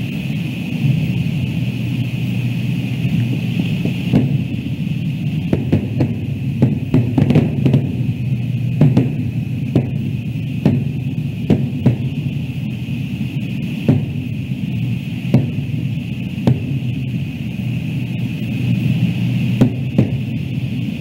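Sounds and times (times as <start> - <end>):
distant fireworks bangs and pops: 0.0 - 21.0
steady low rumble: 0.0 - 21.0.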